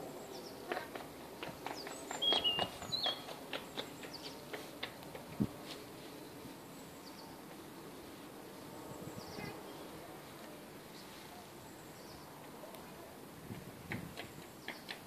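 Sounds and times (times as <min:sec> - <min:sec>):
insects humming: 0:00.0 - 0:15.0.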